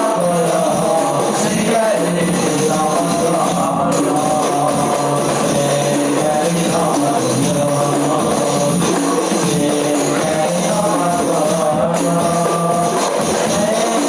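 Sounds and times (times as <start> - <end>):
frame drums beating: 0.0 - 14.0
person singing held melody: 0.0 - 14.0.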